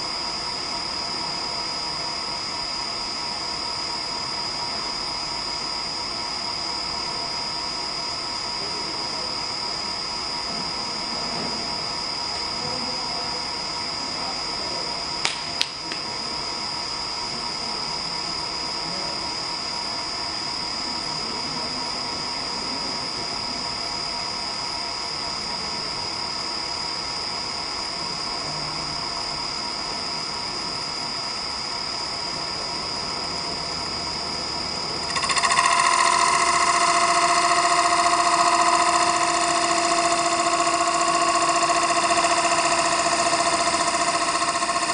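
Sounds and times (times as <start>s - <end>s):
wood lathe motor whine: 0.0s - 44.9s.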